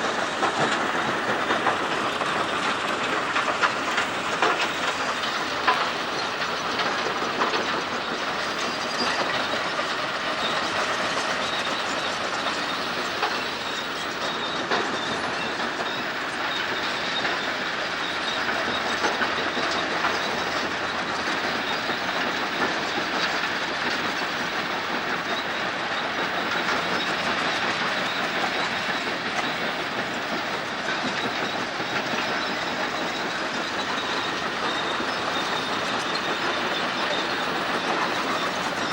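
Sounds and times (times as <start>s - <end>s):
excavator steel tracks clattering: 0.0s - 38.9s.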